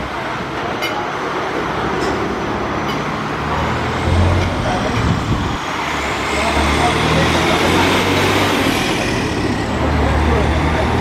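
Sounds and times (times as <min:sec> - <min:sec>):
heavy vehicle engine hum: 0:00.0 - 0:11.0
passing vehicles rushing: 0:00.0 - 0:11.0.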